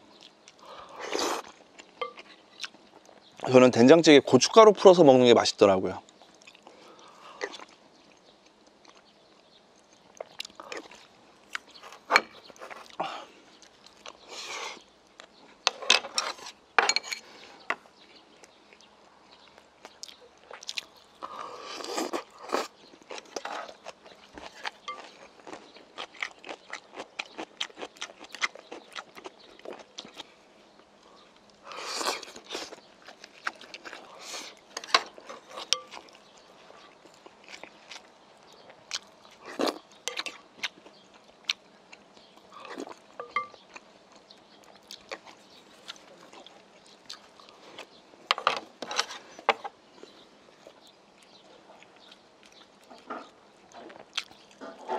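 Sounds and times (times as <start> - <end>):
crunching food: 0.0 - 3.6, 6.0 - 54.9
person chewing with wet clicks: 0.1 - 3.5, 6.0 - 14.3, 18.4 - 30.4, 31.0 - 48.0, 50.1 - 54.6.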